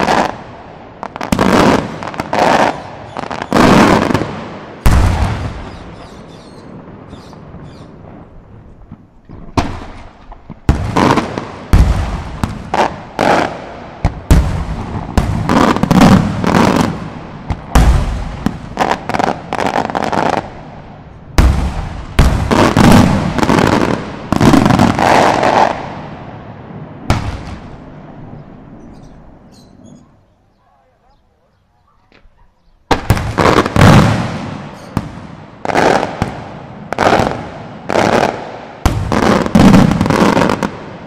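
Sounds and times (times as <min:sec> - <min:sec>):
fireworks bursting with bangs: 0:00.0 - 0:28.9, 0:32.0 - 0:41.0.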